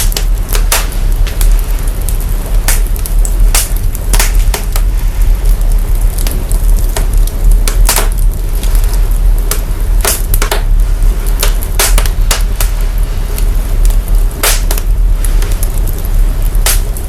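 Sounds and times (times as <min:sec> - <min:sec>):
deep sub-bass rumble: 0:00.0 - 0:17.0
fire crackling and popping: 0:00.0 - 0:17.0.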